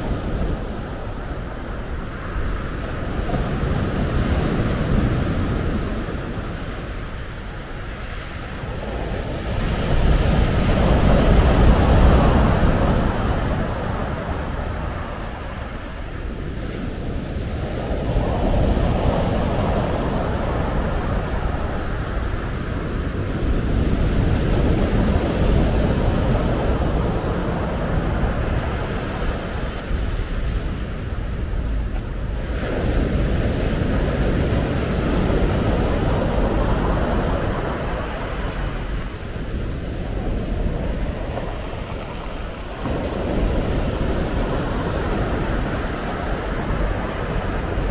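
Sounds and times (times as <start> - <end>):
waves breaking on pebble beach: 0.0 - 47.9
wind buffeting microphone: 0.0 - 47.9.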